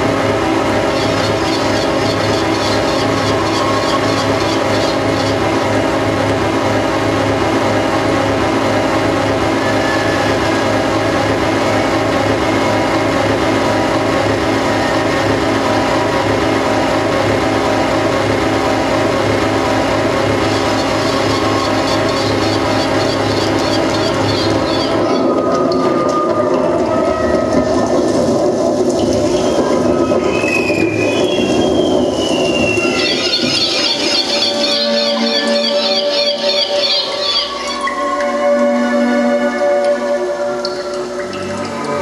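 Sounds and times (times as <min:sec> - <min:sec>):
steady mechanical drone: 0:00.0 - 0:42.0.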